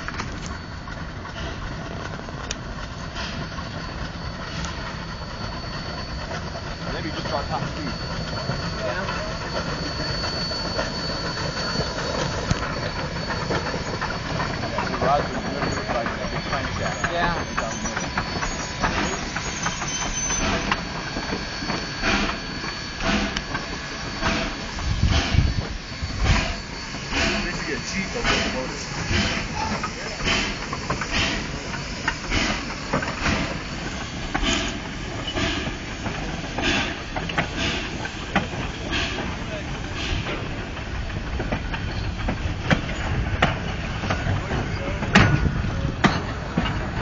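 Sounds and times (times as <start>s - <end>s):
steam locomotive rumbling: 0.0s - 47.0s.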